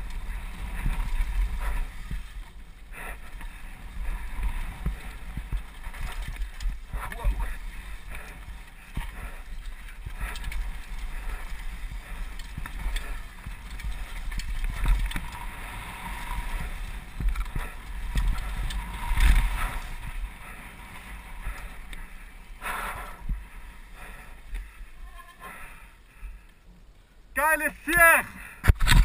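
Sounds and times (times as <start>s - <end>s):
bike rattling over bumps: 0.0s - 24.9s
rumble of tyres and wind: 0.0s - 27.3s, 28.6s - 29.0s.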